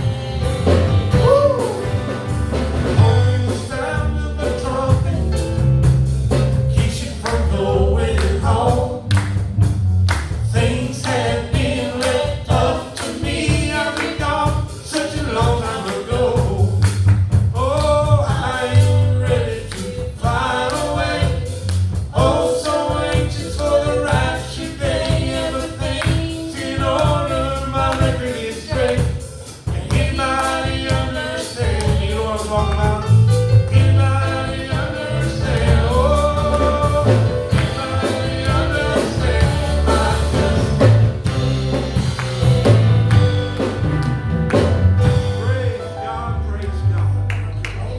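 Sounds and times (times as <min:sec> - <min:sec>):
gospel singing with accompaniment: 0:00.0 - 0:47.9.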